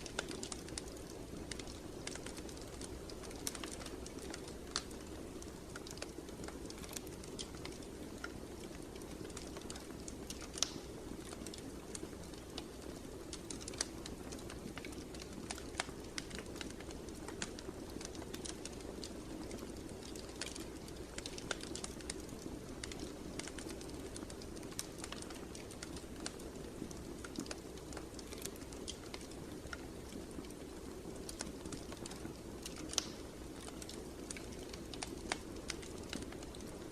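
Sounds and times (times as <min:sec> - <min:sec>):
fire crackling and popping: 0:00.0 - 0:36.9
low rush of flames: 0:00.0 - 0:36.9.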